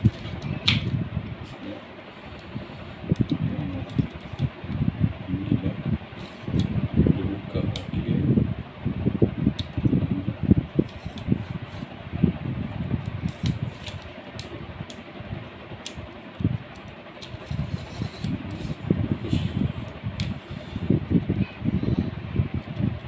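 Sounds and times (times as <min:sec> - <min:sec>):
fan running: 0:00.0 - 0:23.0.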